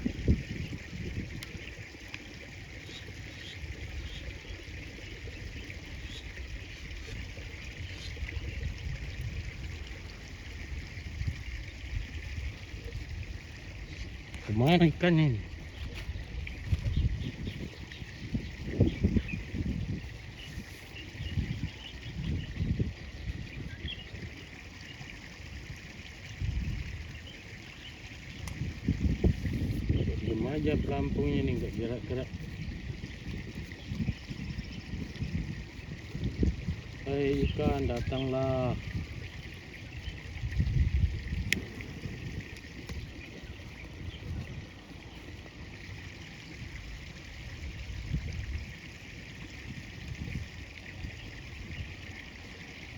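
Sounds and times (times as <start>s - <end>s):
river water flowing and lapping: 0.0s - 52.9s
wind gusting on microphone: 0.0s - 52.9s.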